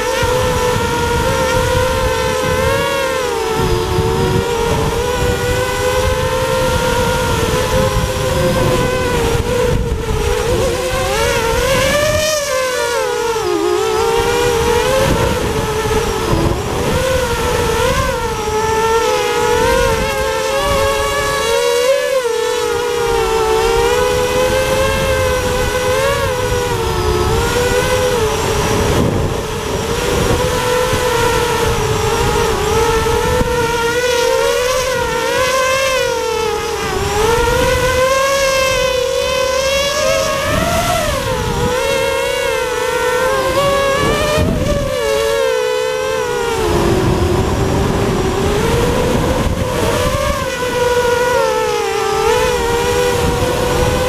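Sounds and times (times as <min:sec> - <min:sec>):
drone motors and propellers whining: 0:00.0 - 0:54.0
wind rumble on microphone: 0:00.0 - 0:54.0.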